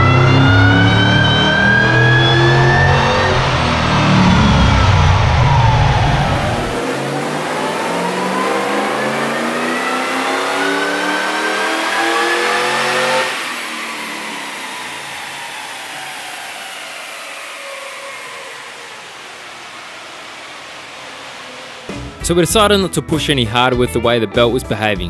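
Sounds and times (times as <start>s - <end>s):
engine revving at full throttle: 0.0s - 22.0s
engine winding down: 0.0s - 22.8s.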